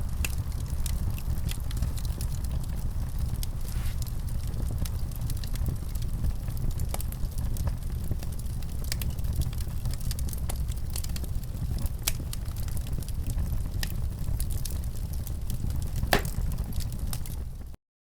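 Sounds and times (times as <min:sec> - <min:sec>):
low fire rumble: 0:00.0 - 0:17.8
wood fire crackling and popping: 0:00.0 - 0:17.8.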